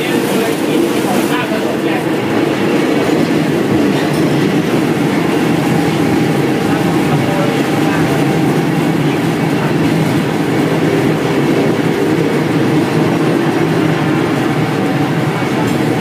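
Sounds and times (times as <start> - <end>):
train running on track: 0.0 - 16.0.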